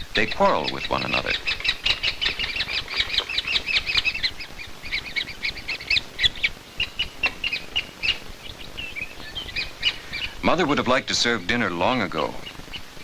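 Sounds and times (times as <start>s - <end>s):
woodpecker nestlings chirping: 0.0s - 13.0s.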